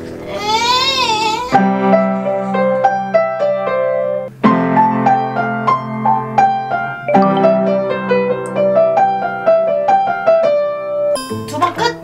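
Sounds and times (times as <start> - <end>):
piano playing: 0.9 - 12.0.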